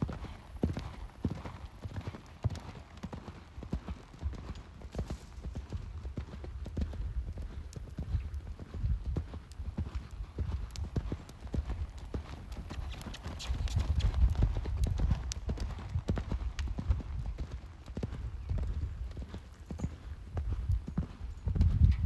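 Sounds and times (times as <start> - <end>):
horse hoofbeats on sand: 0.0 - 22.0.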